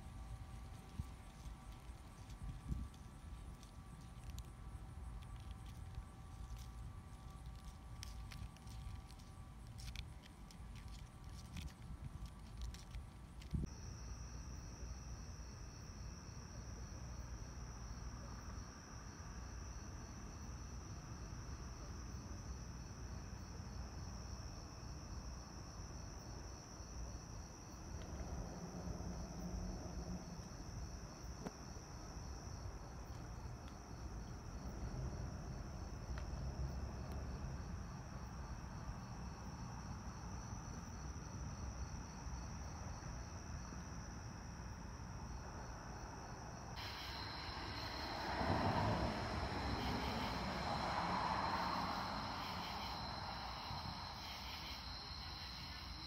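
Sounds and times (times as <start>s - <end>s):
low background rumble: 0.0s - 18.0s, 27.2s - 54.3s
insects trilling: 0.0s - 56.0s.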